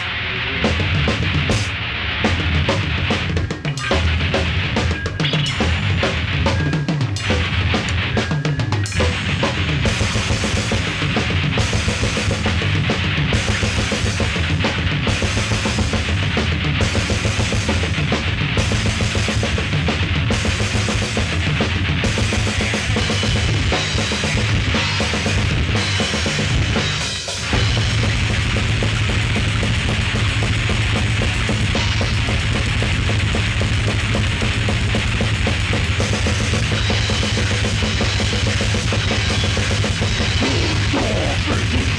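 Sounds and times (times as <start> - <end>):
death metal band playing live: 0.0 - 41.9.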